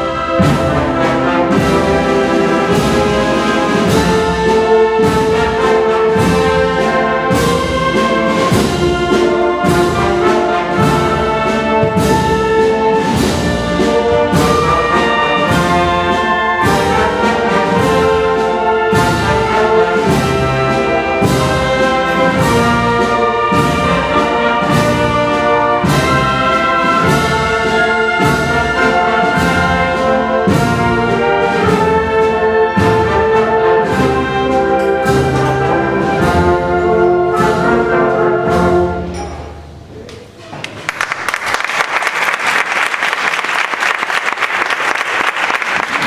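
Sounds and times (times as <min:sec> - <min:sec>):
steady drum beat: 0:00.0 - 0:39.0
wind band playing a march: 0:00.0 - 0:39.2.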